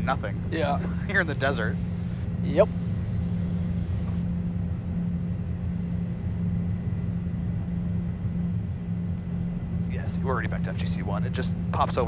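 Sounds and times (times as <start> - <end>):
jet cockpit rumble: 0.0 - 12.0.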